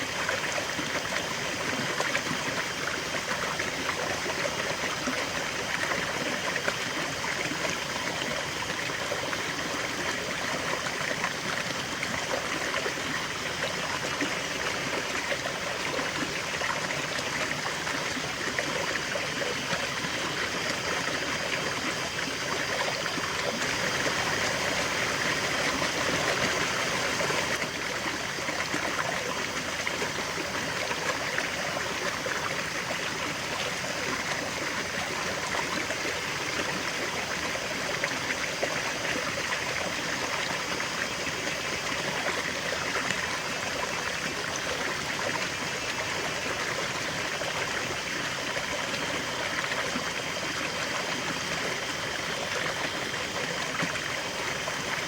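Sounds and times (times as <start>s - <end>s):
river water over stones: 0.0s - 55.0s.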